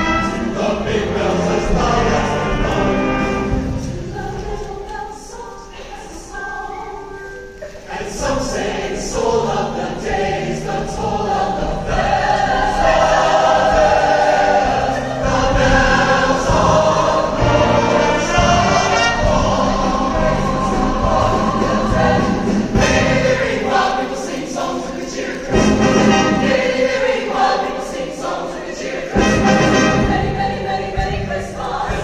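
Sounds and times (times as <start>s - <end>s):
mixed choir singing: 0.0s - 32.0s.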